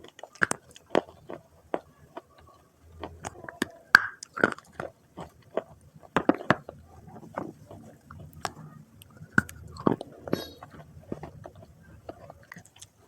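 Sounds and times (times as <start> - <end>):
chewing dry clay crunches: 0.0 - 13.0.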